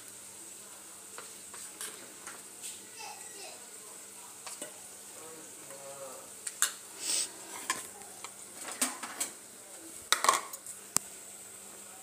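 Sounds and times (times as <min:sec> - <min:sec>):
faint sizzle in a pan: 0:00.0 - 0:12.0.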